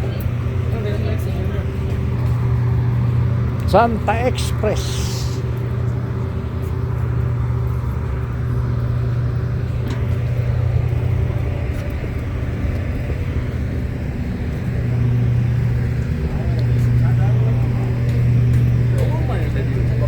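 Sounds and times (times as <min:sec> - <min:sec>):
passenger train rumble: 0:00.0 - 0:20.0.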